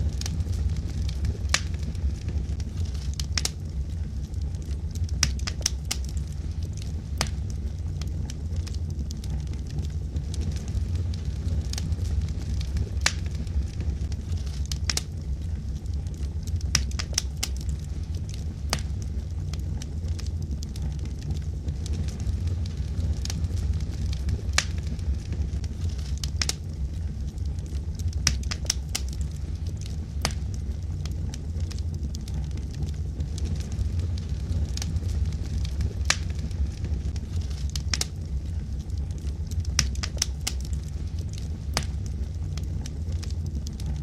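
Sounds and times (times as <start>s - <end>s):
fire rumbling: 0.0s - 44.0s
wood crackling and popping: 0.0s - 44.0s.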